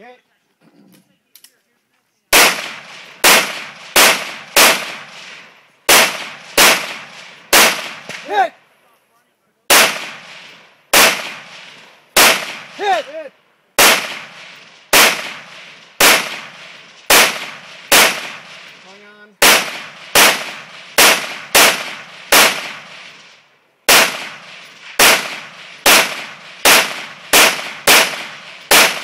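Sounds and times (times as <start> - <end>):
rifle shots echoing: 2.3 - 8.5, 9.7 - 29.0.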